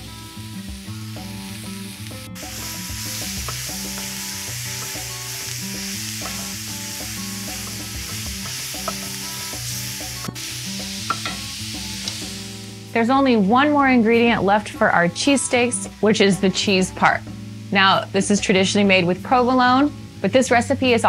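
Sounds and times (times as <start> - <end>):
meat and vegetables sizzling: 0.0 - 21.0
soft background music: 0.0 - 21.0.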